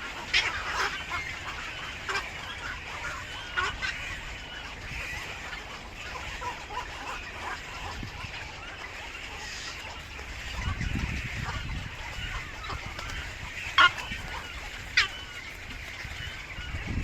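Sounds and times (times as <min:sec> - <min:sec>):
bird calls: 0:00.0 - 0:17.0.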